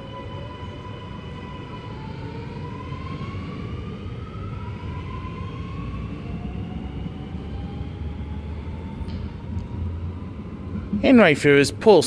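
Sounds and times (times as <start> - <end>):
metro train motors whining: 0.0 - 12.0.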